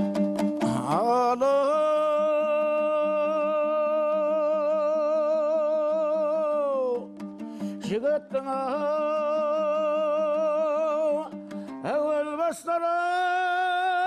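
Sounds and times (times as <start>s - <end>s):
strummed plucked-string accompaniment: 0.0s - 14.0s.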